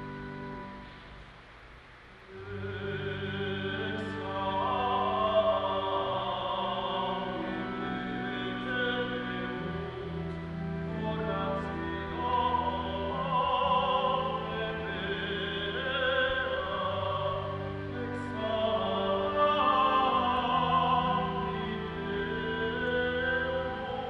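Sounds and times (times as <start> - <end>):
organ chords: 0.0 - 24.0
tenor singing with vibrato: 2.2 - 24.0.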